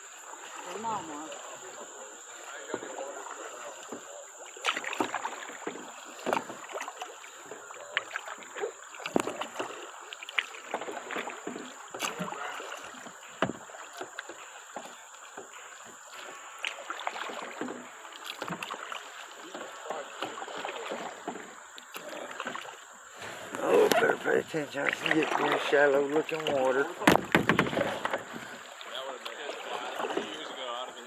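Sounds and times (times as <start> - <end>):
water splashing around a kayak: 0.0 - 31.0.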